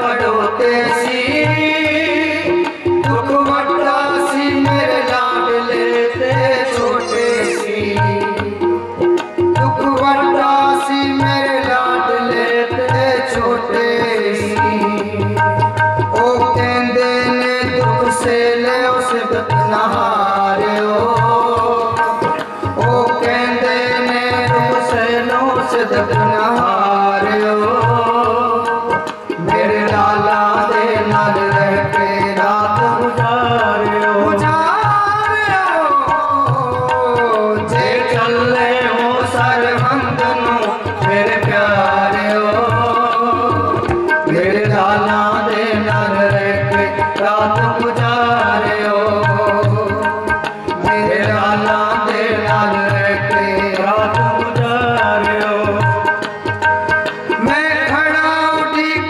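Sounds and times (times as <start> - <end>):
harmonium: 0.0 - 59.0
person singing melody: 0.0 - 59.0
tabla beat: 0.0 - 59.0.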